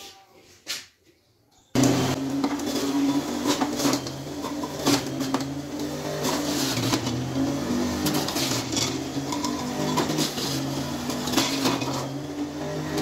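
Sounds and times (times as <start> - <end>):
juicer motor hum: 1.8 - 13.0.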